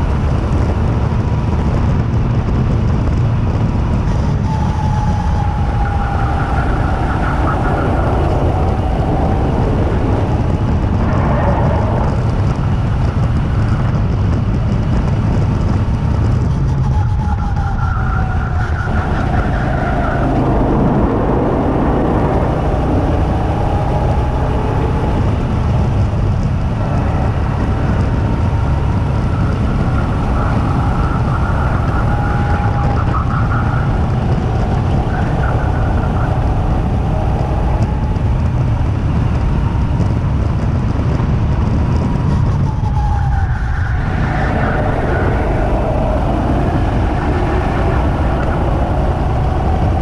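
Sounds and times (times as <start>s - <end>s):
low engine rumble: 0.0s - 50.0s
go-kart motor whine: 2.4s - 50.0s.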